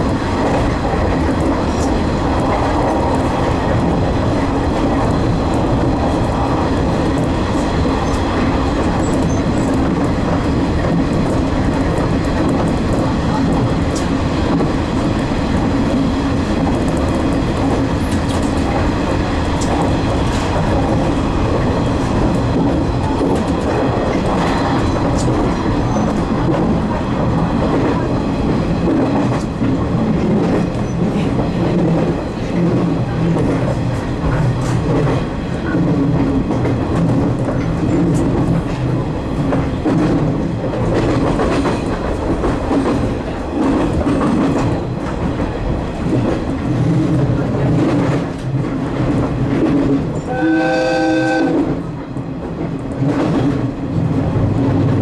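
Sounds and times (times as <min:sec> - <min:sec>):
rail joint clicks: 0:00.0 - 0:55.0
train wheels rumbling on rails: 0:00.0 - 0:55.0.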